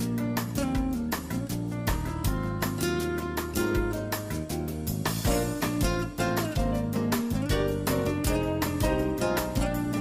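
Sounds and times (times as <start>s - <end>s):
guitar: 0.0s - 10.0s
steady beat: 0.0s - 10.0s.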